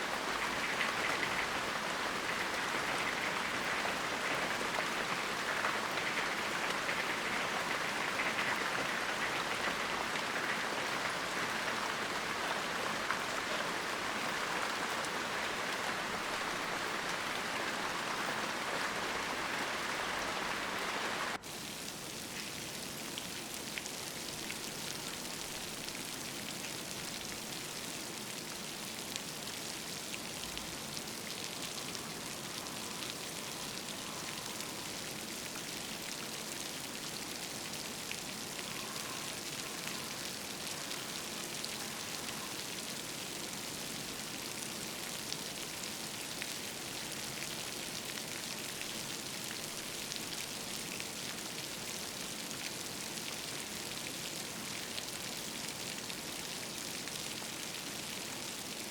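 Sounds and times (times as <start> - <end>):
rain falling: 0.0 - 58.9
raindrops pattering on surfaces: 0.0 - 58.9.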